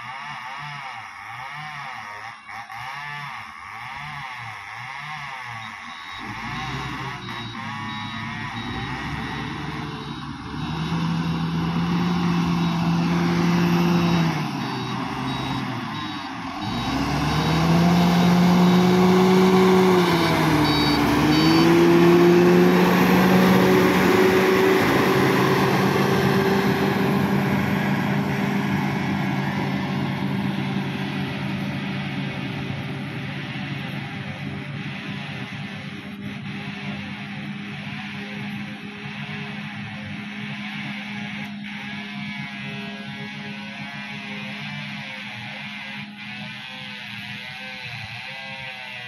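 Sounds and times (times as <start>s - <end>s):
diesel engine running under load: 0.0s - 46.4s.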